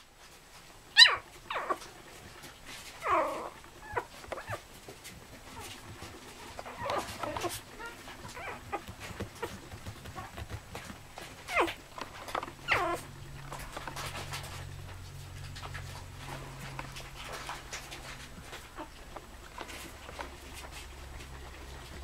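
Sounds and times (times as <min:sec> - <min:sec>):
puppies whimpering and squealing: 0:00.9 - 0:14.8, 0:15.7 - 0:22.0.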